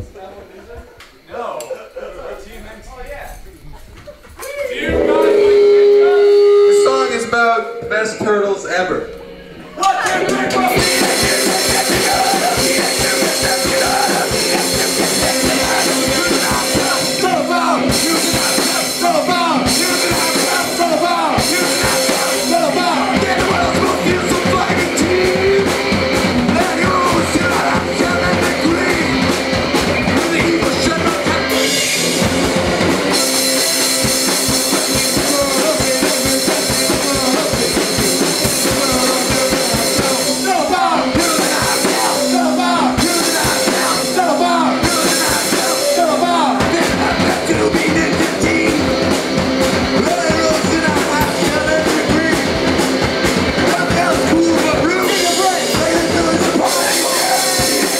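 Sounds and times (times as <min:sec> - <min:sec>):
drum kit: 0:02.6 - 0:57.9
held guitar-like tones: 0:04.4 - 0:57.9
person singing: 0:04.7 - 0:32.3, 0:33.5 - 0:52.8, 0:53.4 - 0:57.9
live rock band playing: 0:04.7 - 0:57.9.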